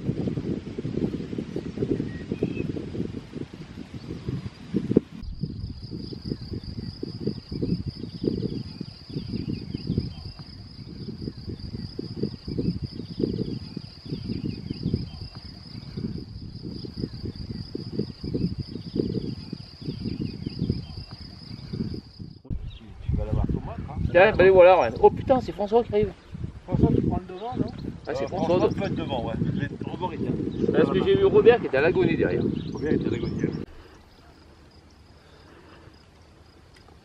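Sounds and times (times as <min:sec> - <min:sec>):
wind buffeting microphone: 0:00.0 - 0:35.2
cricket trilling: 0:00.0 - 0:37.0.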